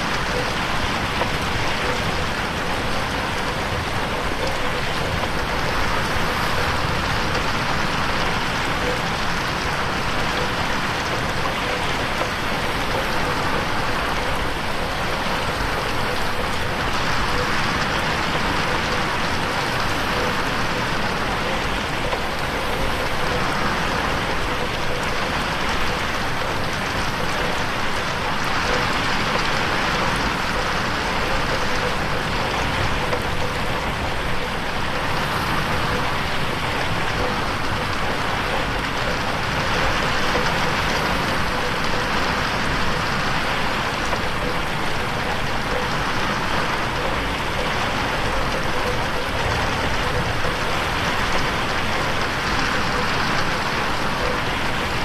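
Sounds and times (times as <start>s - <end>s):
rain on a window: 0.0s - 55.0s.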